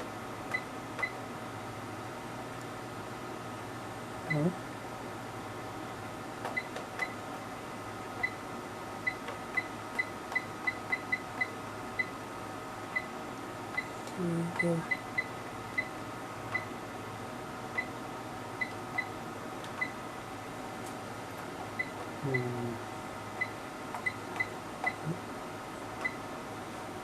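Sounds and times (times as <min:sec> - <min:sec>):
electronic hum and hiss: 0:00.0 - 0:27.0.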